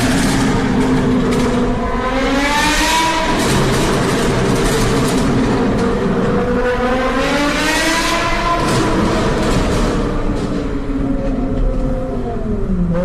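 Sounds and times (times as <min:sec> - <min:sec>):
loud car engine accelerating: 0:00.0 - 0:13.0.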